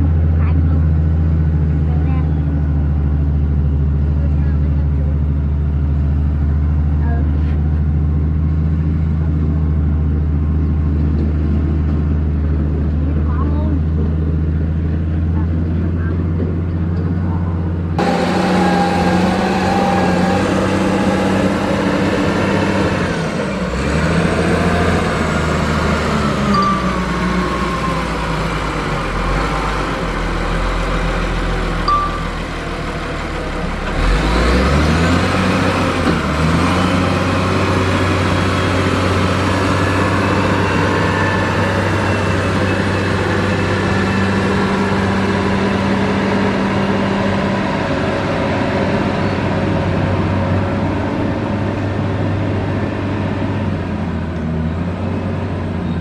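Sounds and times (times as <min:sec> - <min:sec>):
diesel engine of grader running: 0:00.0 - 0:56.0.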